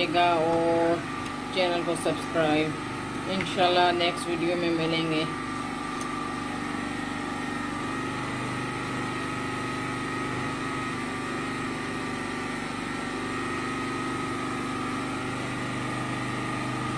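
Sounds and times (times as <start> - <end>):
generator engine running: 0.0 - 16.9.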